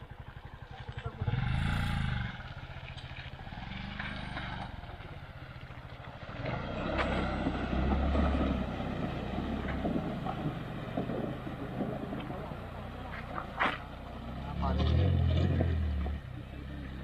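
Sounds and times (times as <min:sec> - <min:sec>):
motorcycle engine under load: 0:00.0 - 0:17.0.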